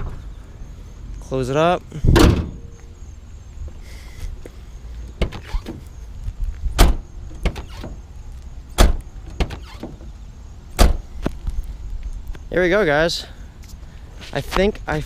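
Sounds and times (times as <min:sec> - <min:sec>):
steady low rumble: 0:00.0 - 0:09.4, 0:10.0 - 0:15.0.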